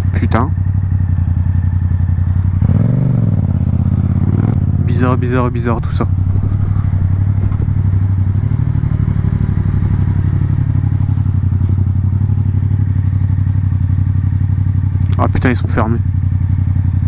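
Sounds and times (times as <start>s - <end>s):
motorcycle engine idling low: 0.0s - 17.0s.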